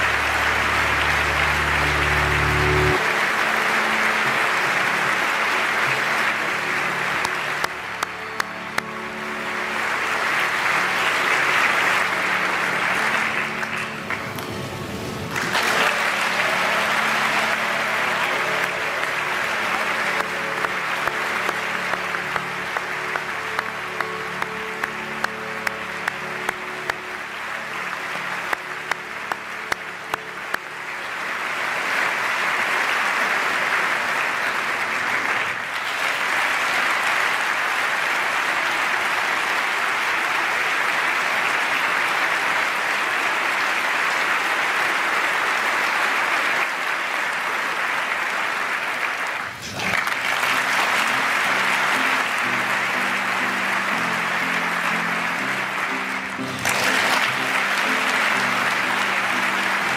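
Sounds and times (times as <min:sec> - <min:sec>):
audience applause: 0:00.0 - 0:59.9.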